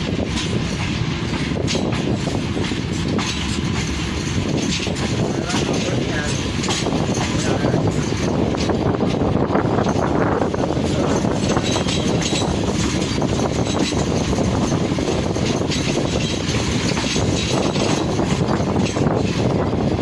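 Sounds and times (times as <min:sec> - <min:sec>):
rushing air: 0:00.0 - 0:20.0
train wheels on rail: 0:00.0 - 0:20.0.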